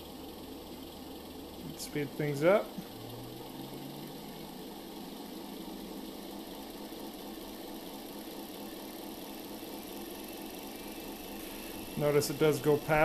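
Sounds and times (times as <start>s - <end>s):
simulated diesel locomotive engine: 0.0s - 13.0s
small electric motor humming: 0.0s - 13.0s.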